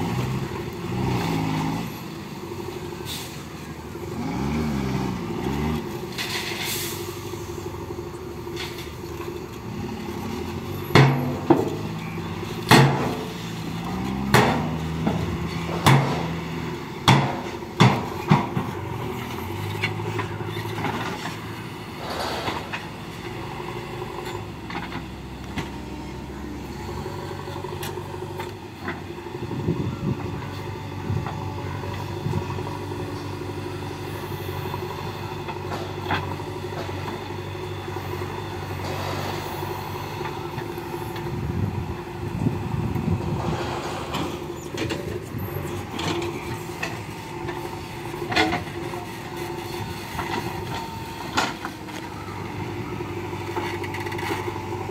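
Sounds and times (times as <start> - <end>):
backhoe engine revving: 0.0 - 54.9
diesel engines running: 0.0 - 54.9.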